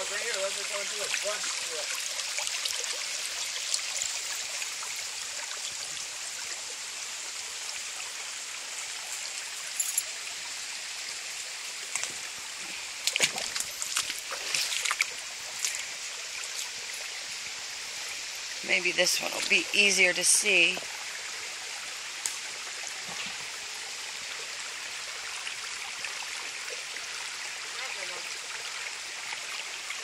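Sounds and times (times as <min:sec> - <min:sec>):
creek water trickling over rocks: 0:00.0 - 0:30.0.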